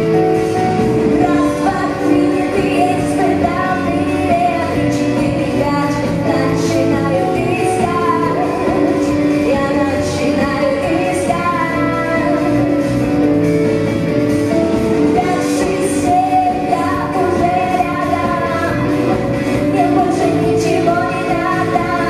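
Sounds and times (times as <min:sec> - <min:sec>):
live band playing pop: 0:00.0 - 0:22.0
woman singing: 0:01.0 - 0:13.5, 0:14.7 - 0:22.0.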